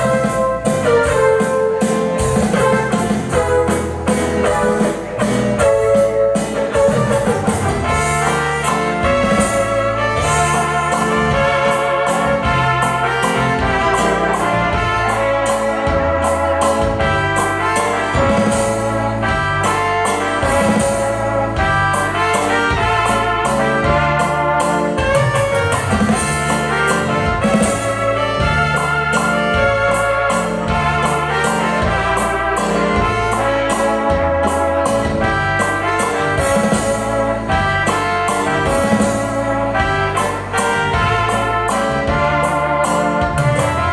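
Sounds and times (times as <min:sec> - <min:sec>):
music with steady beat: 0:00.0 - 0:43.9.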